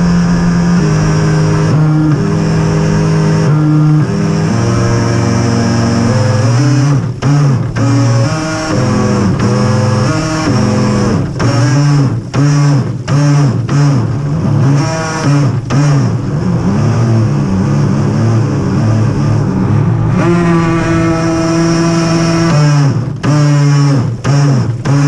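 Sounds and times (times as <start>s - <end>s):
rc boat motor revving: 0.0s - 25.0s.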